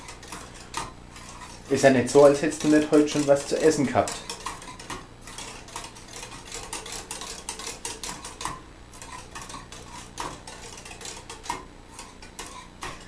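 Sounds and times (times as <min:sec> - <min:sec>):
whisk scraping in a pot: 0:00.0 - 0:13.0.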